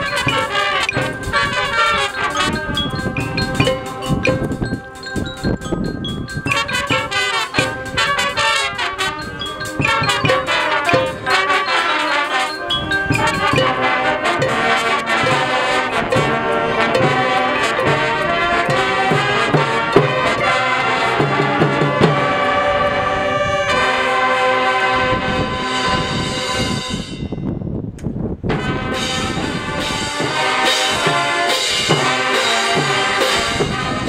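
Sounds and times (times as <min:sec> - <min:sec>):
marching band playing: 0:00.0 - 0:27.1, 0:28.5 - 0:34.0.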